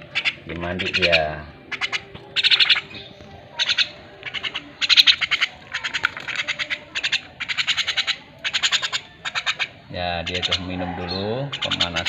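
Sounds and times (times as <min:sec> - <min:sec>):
mynas chattering calls: 0:00.0 - 0:12.0.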